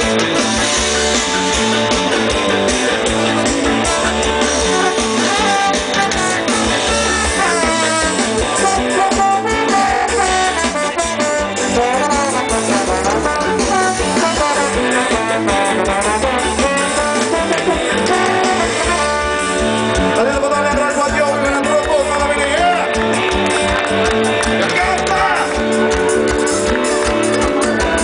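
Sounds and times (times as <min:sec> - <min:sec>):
bass and drums: 0:00.0 - 0:28.0
horn section melody: 0:00.0 - 0:28.0.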